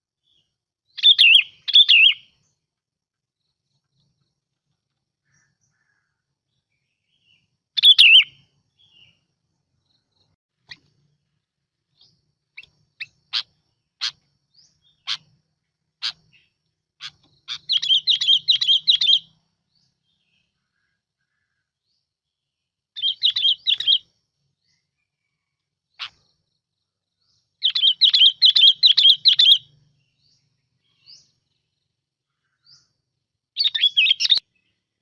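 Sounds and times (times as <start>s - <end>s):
bulbul singing: 0.2s - 2.7s, 5.2s - 22.1s, 23.0s - 25.1s, 25.9s - 35.0s.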